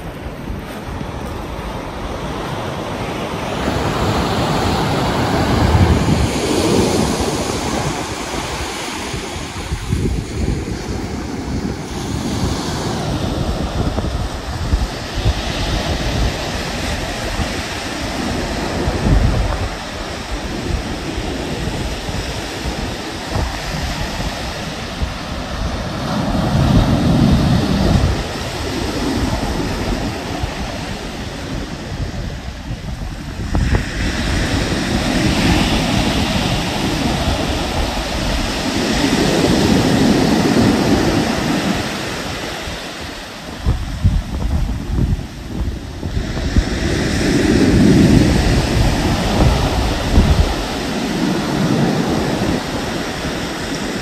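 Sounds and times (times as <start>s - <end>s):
surf breaking on beach: 0.0s - 54.0s
wind buffeting microphone: 0.0s - 54.0s.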